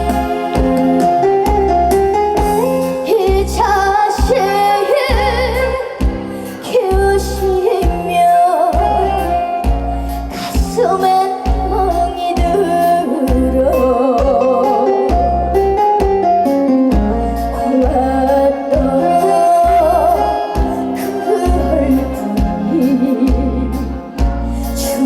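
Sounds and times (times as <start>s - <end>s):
backing track with bass beat: 0.0s - 25.0s
woman singing: 2.4s - 15.8s, 16.9s - 25.0s.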